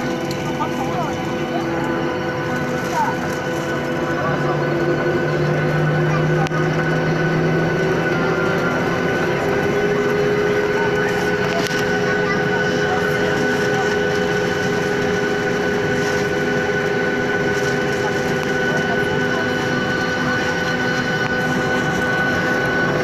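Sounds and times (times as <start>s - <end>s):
airliner engines rushing noise: 0.0s - 23.0s
engine whining tones: 0.0s - 23.0s.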